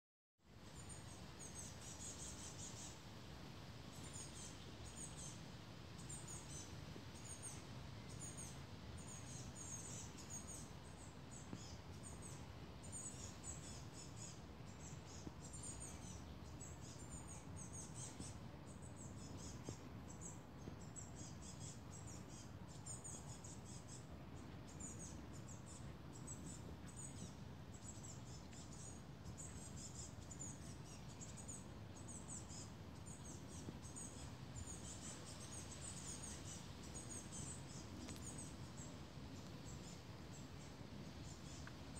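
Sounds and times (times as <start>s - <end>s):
low background hum: 0.5s - 41.9s.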